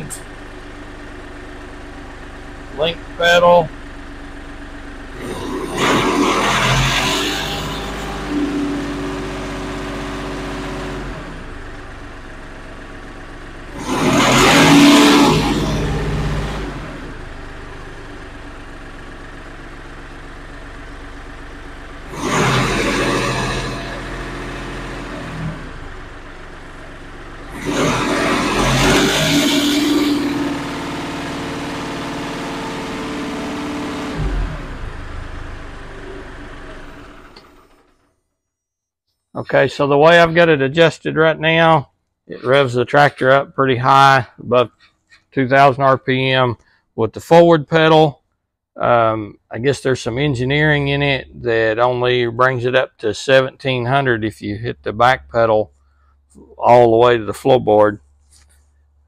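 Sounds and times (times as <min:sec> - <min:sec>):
tractor diesel engine idling and revving: 0:00.0 - 0:38.1, 0:39.4 - 0:48.1, 0:48.8 - 0:59.0.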